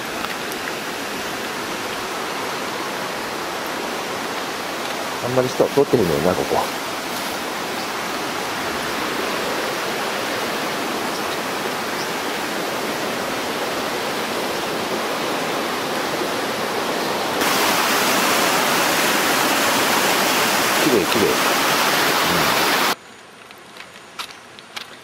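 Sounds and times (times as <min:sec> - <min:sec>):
river rushing over boulders: 0:00.0 - 0:23.0.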